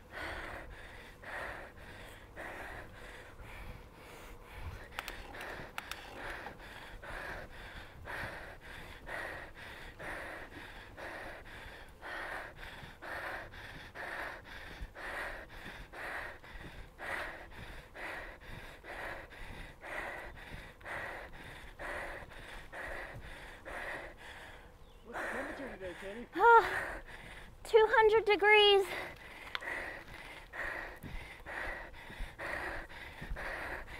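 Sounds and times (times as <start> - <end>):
person breathing hard: 0.0 - 27.9, 28.6 - 33.9.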